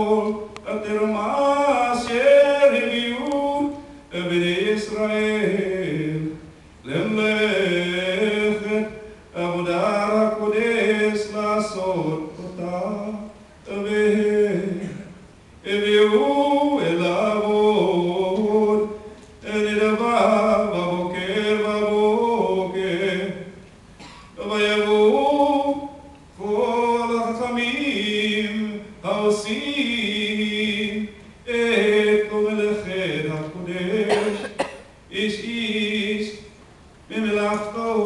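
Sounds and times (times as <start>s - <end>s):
man chanting unaccompanied: 0.0s - 23.6s, 24.4s - 38.0s.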